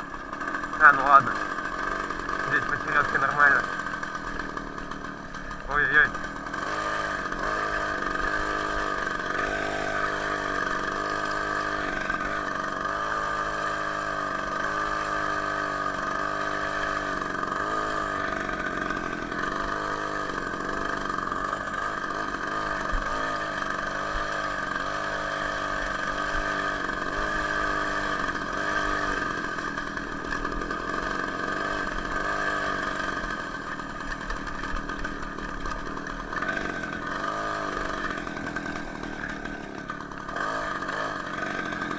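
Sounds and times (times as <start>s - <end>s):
two-stroke engine revving: 0.0s - 41.9s.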